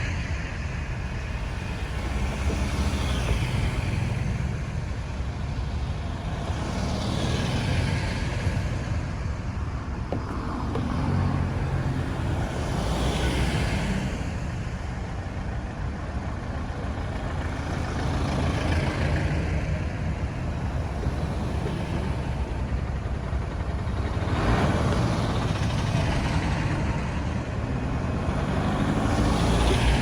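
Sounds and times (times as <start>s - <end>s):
traffic engines rumbling: 0.0s - 30.0s
tyre hiss of passing vehicles: 0.0s - 30.0s.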